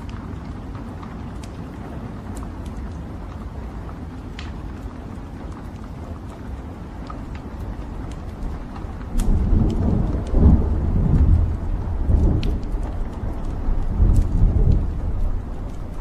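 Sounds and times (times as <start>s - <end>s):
fire roaring: 0.0s - 16.0s
logs crackling and popping: 0.0s - 16.0s.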